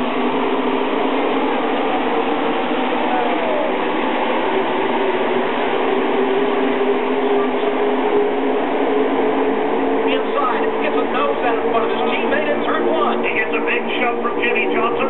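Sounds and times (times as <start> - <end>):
race cars passing by: 0.0 - 15.0.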